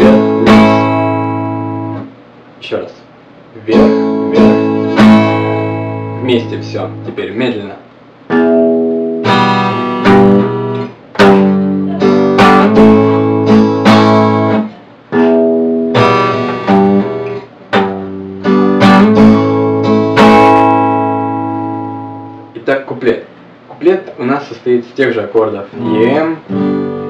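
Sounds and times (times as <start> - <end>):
acoustic guitar strumming: 0.0 - 2.2, 3.6 - 22.7, 25.4 - 27.0.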